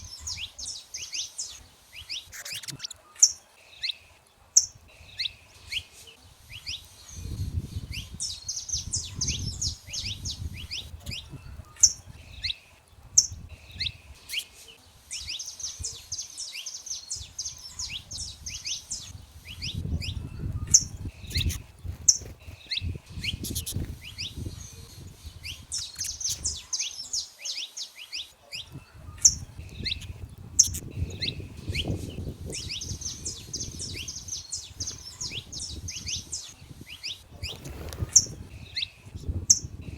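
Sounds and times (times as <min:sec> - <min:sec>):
sharp bird chips: 0:00.0 - 0:39.8
finches twittering song: 0:00.0 - 0:39.9.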